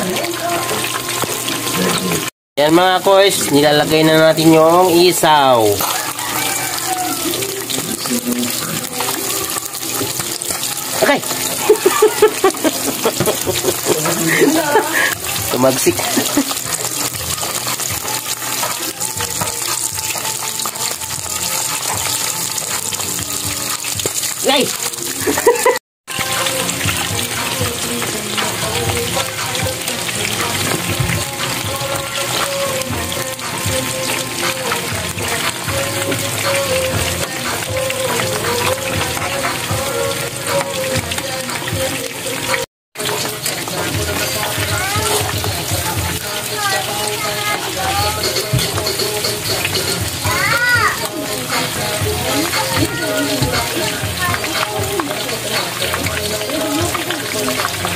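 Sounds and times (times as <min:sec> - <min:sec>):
deep-frying sizzle with crackles: 0:00.0 - 0:57.9.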